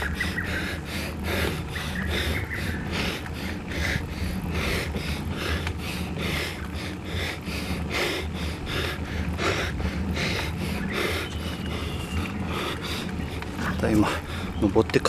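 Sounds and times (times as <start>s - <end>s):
cyclist breathing hard: 0.0s - 14.6s
low wind: 0.0s - 15.0s
road rumble: 0.0s - 15.0s.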